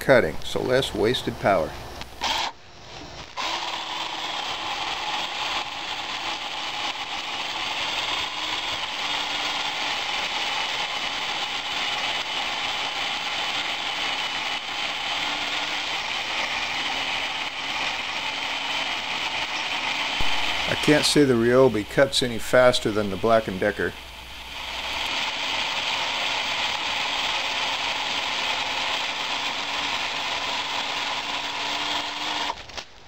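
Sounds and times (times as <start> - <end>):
electric chainsaw cutting log: 2.2 - 2.6, 3.2 - 32.8.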